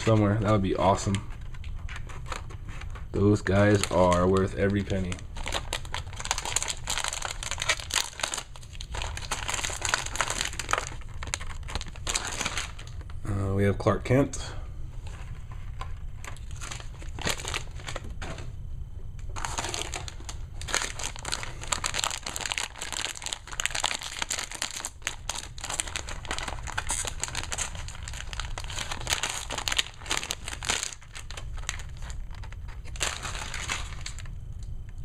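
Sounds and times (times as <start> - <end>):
foil wrapper crinkling: 0.0 - 13.1, 15.2 - 18.2, 19.3 - 34.8.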